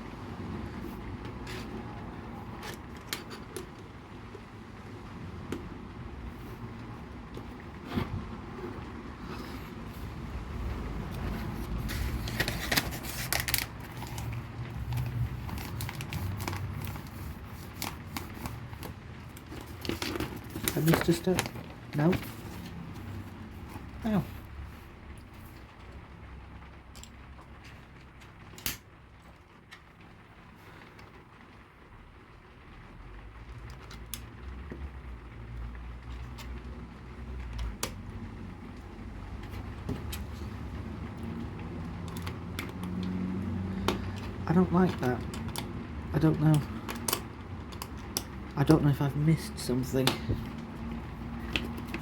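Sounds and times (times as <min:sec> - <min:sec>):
low steady rumble: 0:00.0 - 0:52.0.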